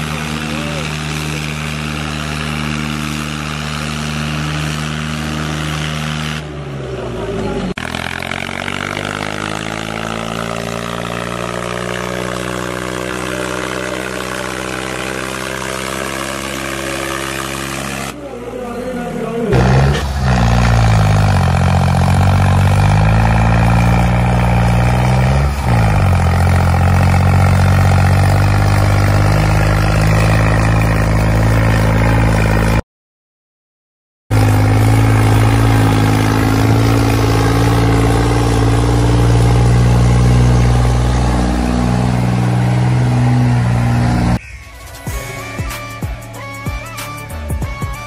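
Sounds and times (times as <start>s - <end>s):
diesel tractor engine running: 0.0s - 32.8s, 34.3s - 47.0s.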